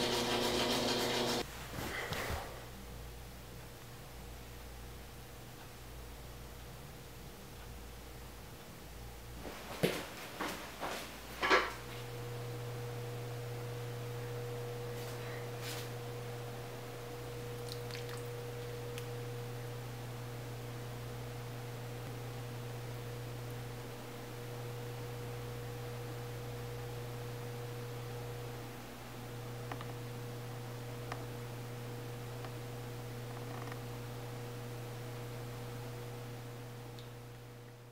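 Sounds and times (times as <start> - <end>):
electrical hum: 0.0 - 37.9.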